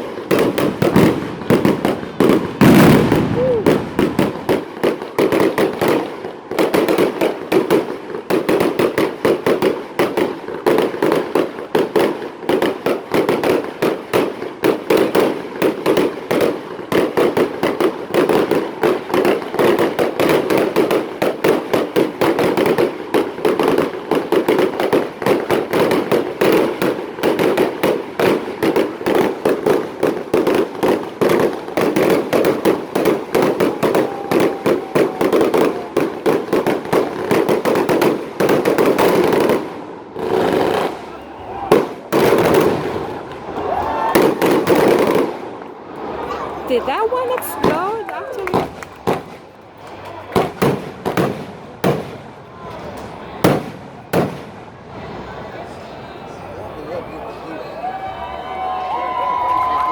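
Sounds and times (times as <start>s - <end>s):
fireworks popping and cracking: 0.0s - 55.2s.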